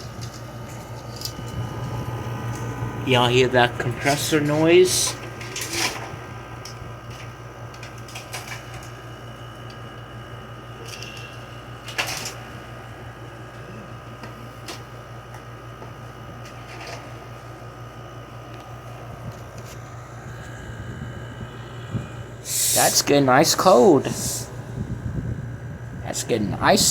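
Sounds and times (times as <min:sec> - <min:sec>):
air conditioner running: 0:00.0 - 0:26.9.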